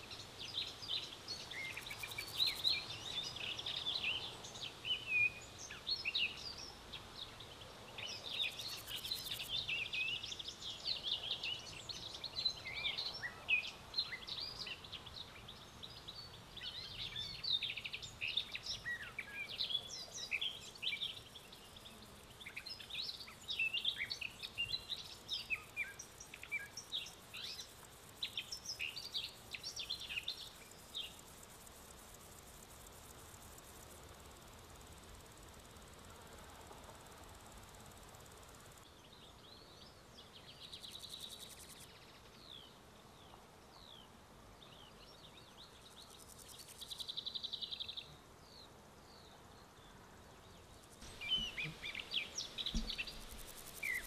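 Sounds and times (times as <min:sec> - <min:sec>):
songbirds chirping and twittering: 0:00.0 - 0:54.0.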